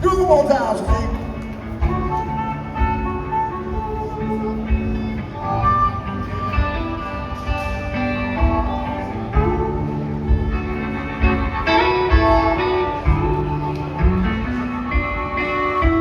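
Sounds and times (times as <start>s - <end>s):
blues band playing: 0.0s - 16.0s
guitar: 0.0s - 16.0s
harmonica solo: 1.8s - 16.0s.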